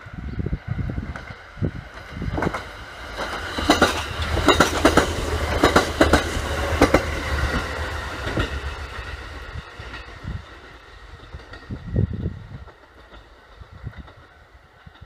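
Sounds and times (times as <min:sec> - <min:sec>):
electric train passing: 0:00.0 - 0:15.0
train wheels clacking on rail joints: 0:01.1 - 0:15.0.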